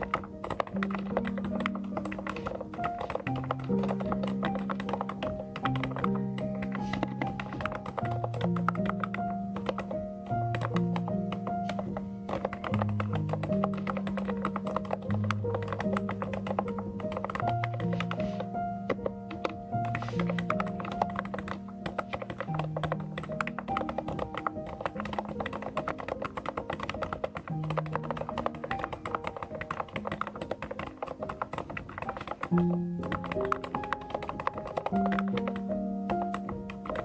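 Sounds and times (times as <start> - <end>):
background music with low notes: 0.0 - 37.0
mechanical keyboard typing: 0.0 - 37.0.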